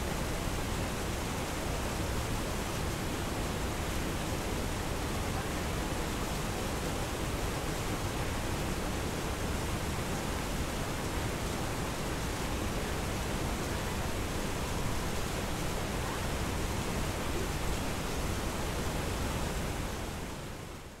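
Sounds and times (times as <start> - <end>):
waterfall roaring: 3.0 - 20.5.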